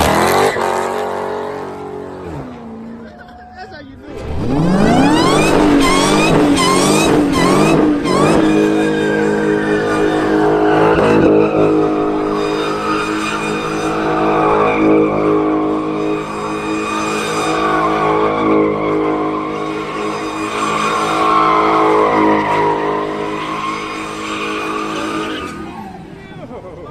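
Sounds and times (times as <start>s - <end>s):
car engine revving hard: 0.0s - 3.3s, 4.0s - 26.2s
tyres squealing: 3.0s - 26.4s.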